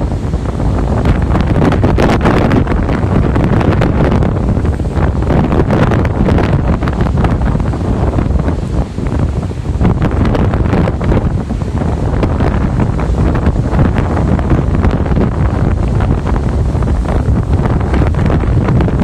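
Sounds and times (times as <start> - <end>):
heavy surf breaking: 0.0 - 19.0
wind buffeting microphone: 0.0 - 19.0.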